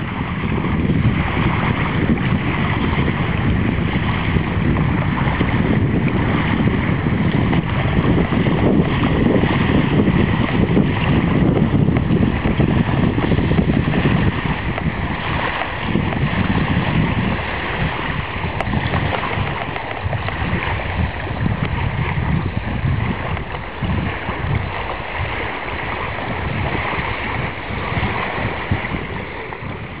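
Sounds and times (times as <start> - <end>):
small waves breaking on sand: 0.0 - 30.0
wind buffeting microphone: 0.0 - 30.0.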